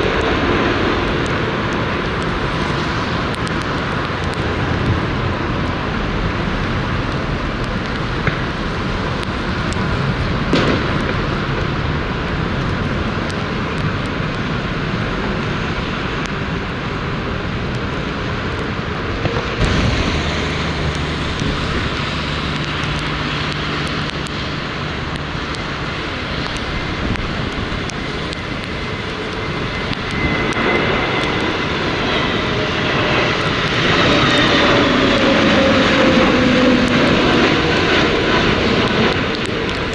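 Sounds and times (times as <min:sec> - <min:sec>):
jet airliner engines: 0:00.0 - 0:39.9
wind buffeting microphone: 0:00.0 - 0:39.9.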